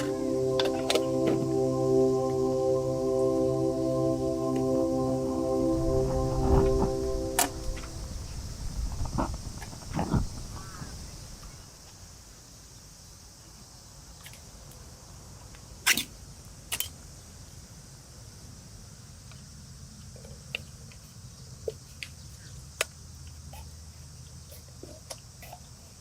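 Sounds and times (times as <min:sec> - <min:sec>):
insect chirr: 0:00.0 - 0:26.0.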